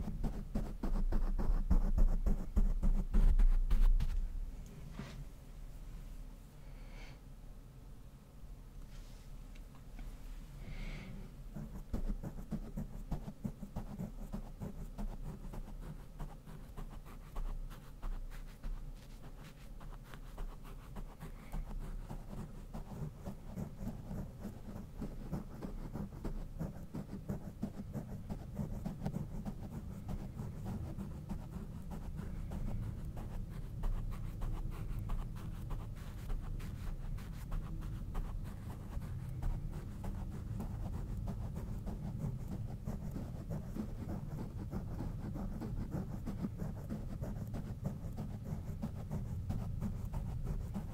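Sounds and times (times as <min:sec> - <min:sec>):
brush scratching microphone grille: 0:00.0 - 0:05.2, 0:11.5 - 0:50.9.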